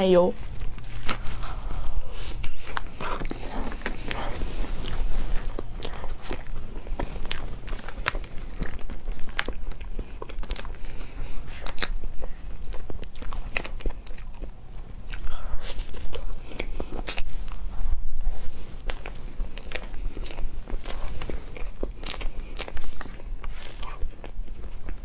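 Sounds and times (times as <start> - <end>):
chewing soft cake: 0.4 - 25.0.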